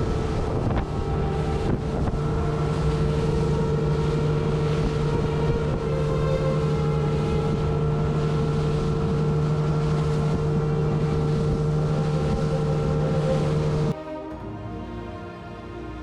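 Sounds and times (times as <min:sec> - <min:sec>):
wind buffeting microphone: 0:00.0 - 0:14.0
boat motor droning: 0:00.0 - 0:16.0.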